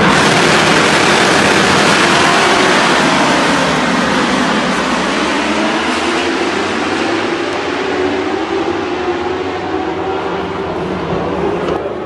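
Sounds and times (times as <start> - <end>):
motorcycle engines roaring: 0.0 - 12.0.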